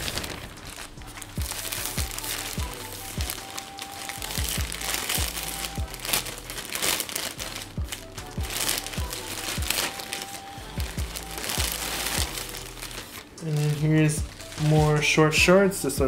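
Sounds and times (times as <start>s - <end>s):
plastic bag crinkling: 0.0s - 15.4s
background music with drum beat: 0.1s - 16.0s.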